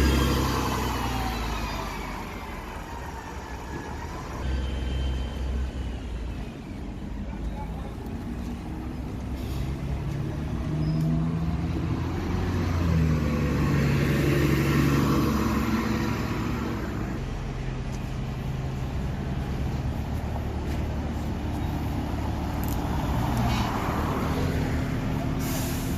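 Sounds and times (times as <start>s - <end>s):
bus engine running: 0.0s - 4.4s, 5.7s - 25.9s.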